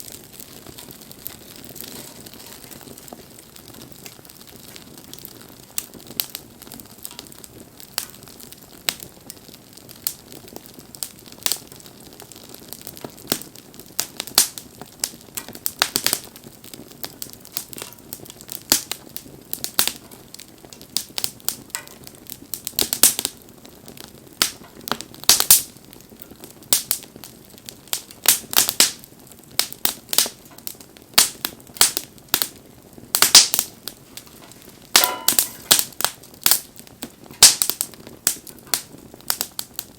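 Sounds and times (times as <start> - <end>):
bonfire crackling and popping: 0.0 - 39.9
low fire hiss: 0.0 - 39.9.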